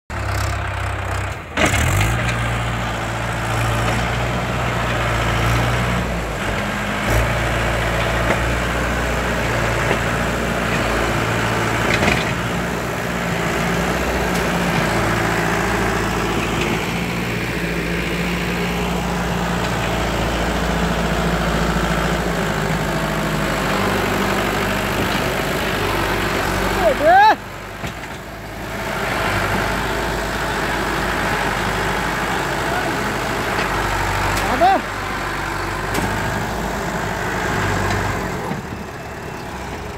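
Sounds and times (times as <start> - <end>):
tractor diesel engine running: 0.1 - 39.9.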